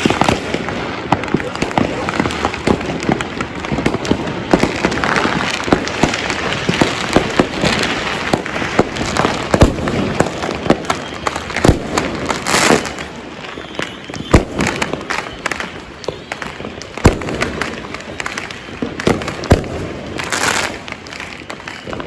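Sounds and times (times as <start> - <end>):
firecrackers crackling: 0.0 - 22.0
firework booms: 0.0 - 22.0.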